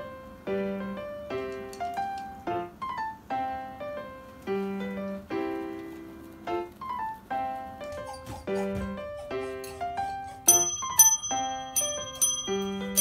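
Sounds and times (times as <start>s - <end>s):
light piano music: 0.0s - 13.0s.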